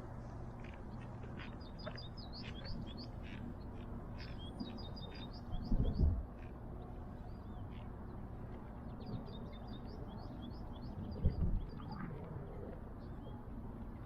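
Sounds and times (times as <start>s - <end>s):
small birds chirping: 0.6s - 13.6s.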